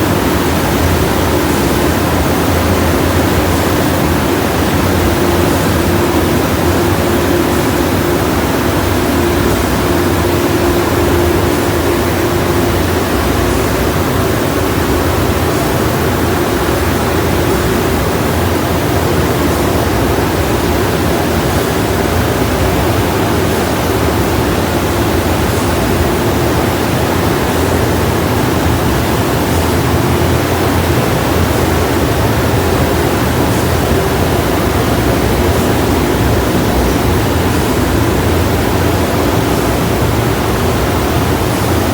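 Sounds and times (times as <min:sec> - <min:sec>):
car wash rushing: 0:00.0 - 0:41.9
faint constant hum: 0:00.0 - 0:41.9.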